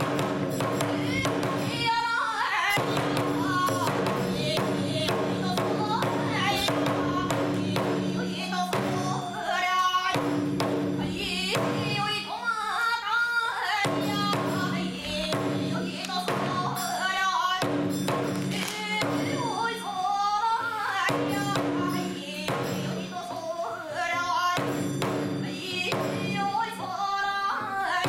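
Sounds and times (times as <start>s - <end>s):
drum beating steady rhythm: 0.0s - 28.0s.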